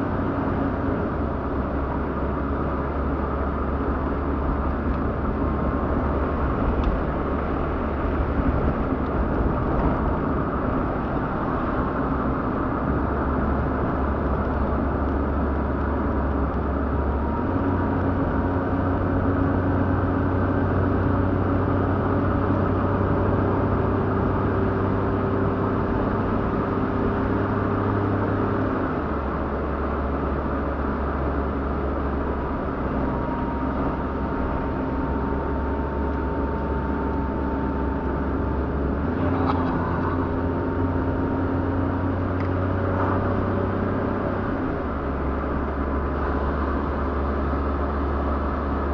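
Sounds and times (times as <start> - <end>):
car engine rumbling: 0.0 - 48.9.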